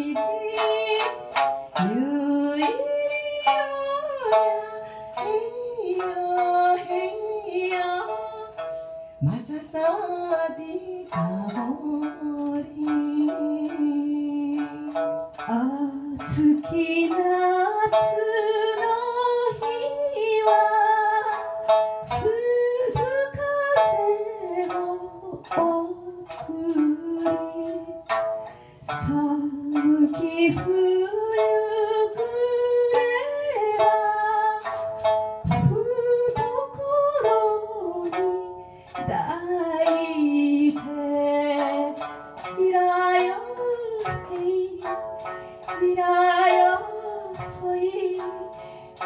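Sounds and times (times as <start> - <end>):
woman singing: 0.0 - 8.6, 9.2 - 28.2, 28.8 - 45.1, 45.8 - 48.6
plucked string accompaniment: 0.0 - 49.0.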